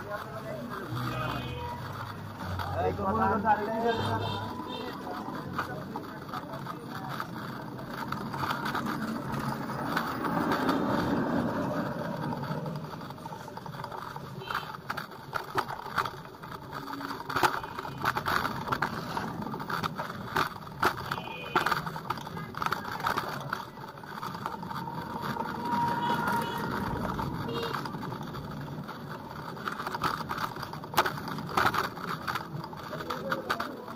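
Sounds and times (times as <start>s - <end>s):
bike rattling on bumpy road: 0.0s - 33.9s
traffic noise: 0.0s - 33.9s.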